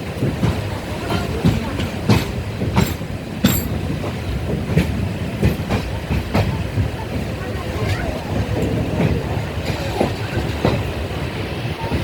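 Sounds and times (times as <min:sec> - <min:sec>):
train rumble: 0:00.0 - 0:12.0
wheels clacking over rails: 0:00.0 - 0:12.0.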